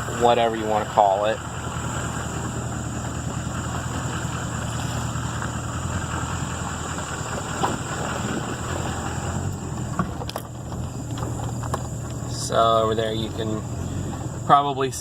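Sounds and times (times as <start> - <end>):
road and body noise: 0.0 - 15.0
truck engine hum: 0.0 - 15.0.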